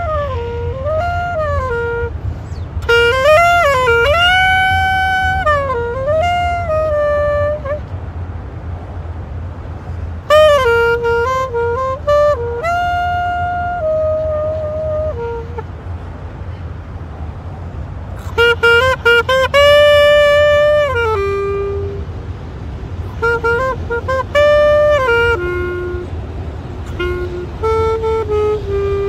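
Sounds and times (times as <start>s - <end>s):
low clarinet solo: 0.0s - 8.2s, 9.9s - 16.1s, 18.1s - 29.0s
steady low rumble: 0.0s - 29.0s.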